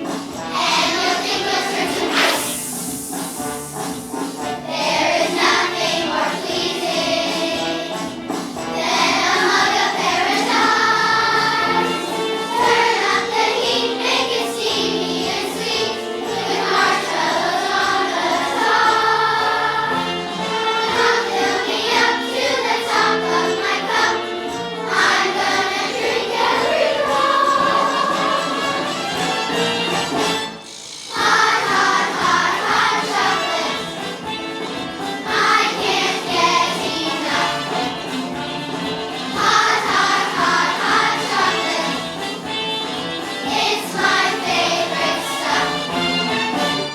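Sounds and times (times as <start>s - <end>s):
children's choir singing: 0.0s - 46.9s
instrumental accompaniment: 0.0s - 46.9s.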